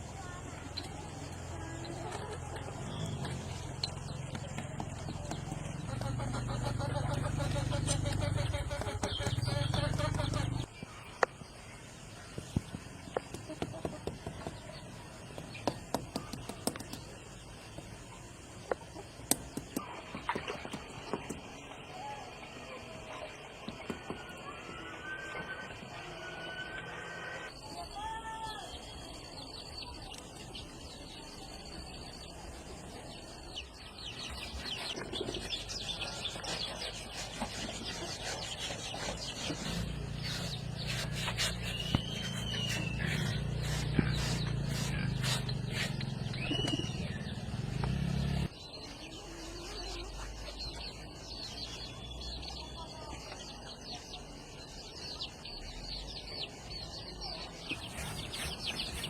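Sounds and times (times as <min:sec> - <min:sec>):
small birds chirping: 0:00.0 - 0:19.9, 0:27.5 - 0:59.0.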